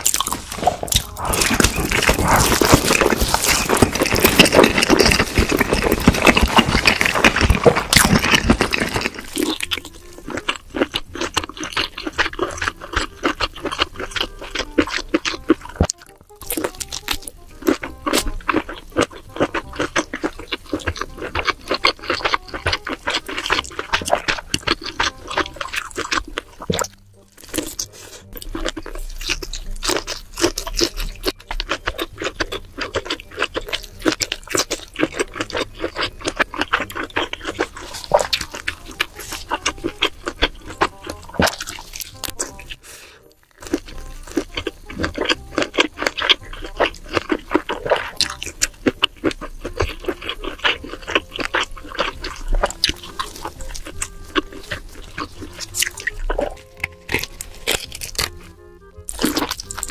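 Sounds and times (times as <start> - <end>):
crunching bites and chewing: 0.0 - 59.9
wet chewing with mouth clicks: 0.0 - 59.9.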